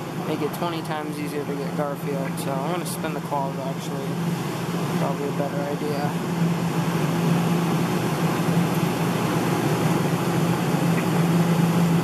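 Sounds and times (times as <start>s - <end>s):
constant background noise: 0.0s - 12.0s
low mechanical hum: 0.0s - 12.0s.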